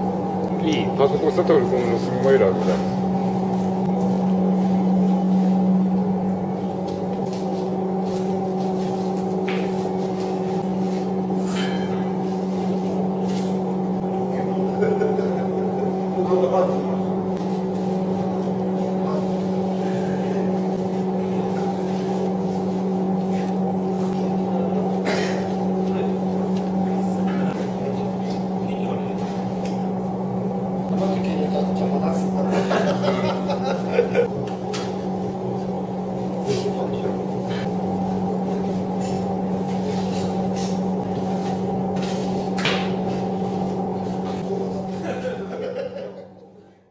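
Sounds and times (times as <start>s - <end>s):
machine hum: 0.0s - 46.9s.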